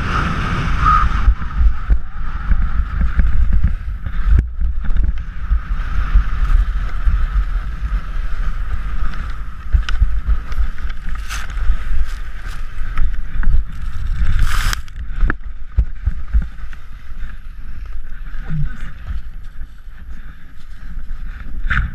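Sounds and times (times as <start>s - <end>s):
skis scraping over snow: 0.0s - 21.9s
wind buffeting microphone: 0.0s - 21.9s.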